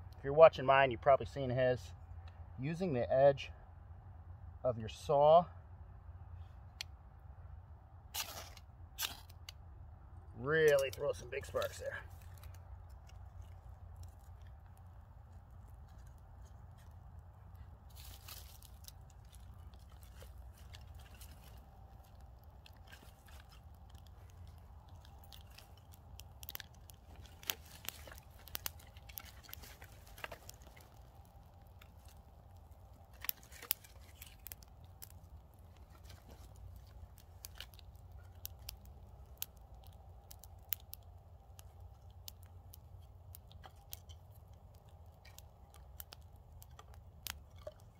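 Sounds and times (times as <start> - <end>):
twig fire crackling: 0.0 - 3.0, 6.2 - 47.9
low steady rumble: 0.0 - 47.9.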